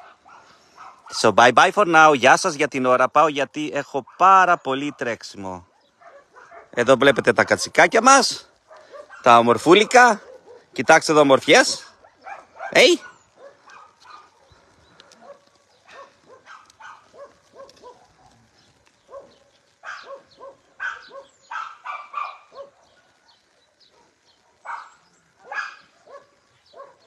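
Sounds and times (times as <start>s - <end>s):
dogs barking: 0.0s - 1.3s, 3.9s - 27.0s.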